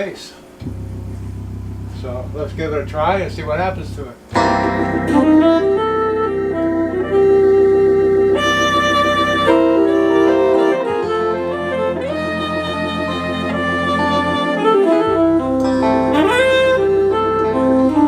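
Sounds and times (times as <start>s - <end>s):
keyboard saxophone melody: 0.6s - 18.0s
low bass notes: 0.6s - 18.0s
organ backing tone: 0.6s - 18.0s.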